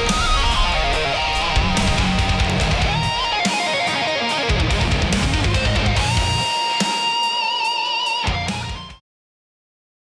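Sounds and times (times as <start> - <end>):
rock music with lead guitar: 0.0 - 9.0.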